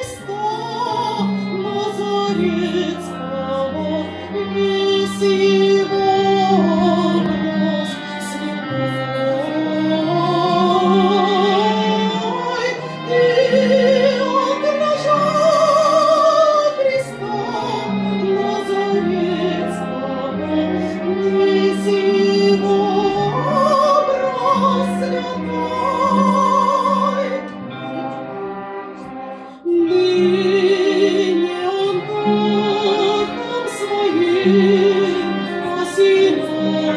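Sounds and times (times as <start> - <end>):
woman singing operatically: 0.0 - 27.5, 29.6 - 36.9.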